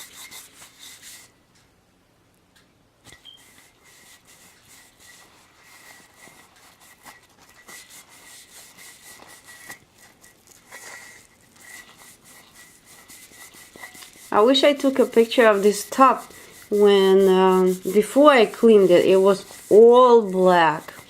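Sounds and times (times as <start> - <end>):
scrubbing frying pan: 3.2 - 21.0.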